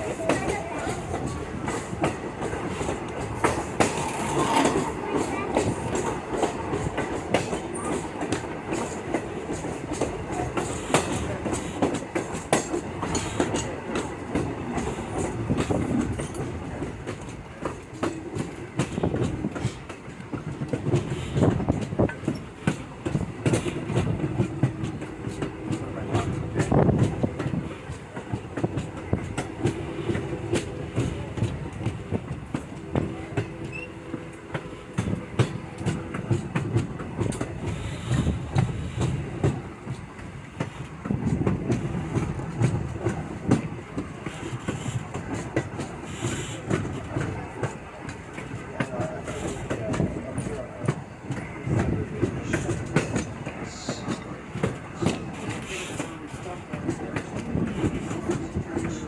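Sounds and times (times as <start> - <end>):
train wheel rumble: 0.0 - 59.0
wheels clacking over rail joints: 0.0 - 59.0.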